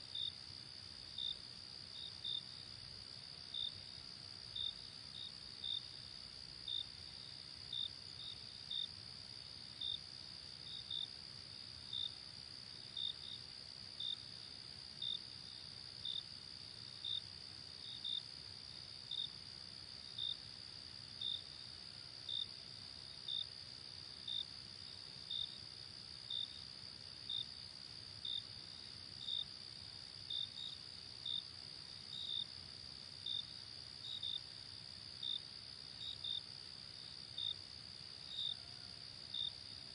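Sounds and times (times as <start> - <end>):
insect chirp: 0.0 - 39.9.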